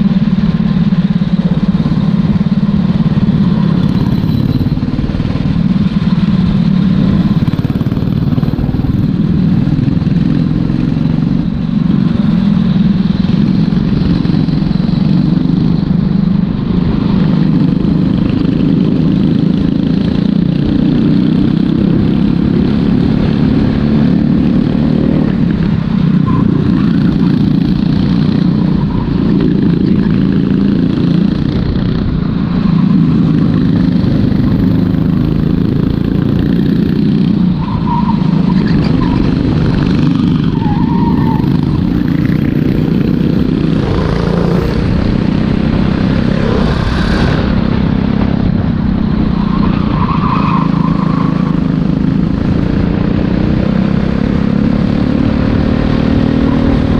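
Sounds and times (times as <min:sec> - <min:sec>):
kart engine at racing speed: 0:00.0 - 0:56.9.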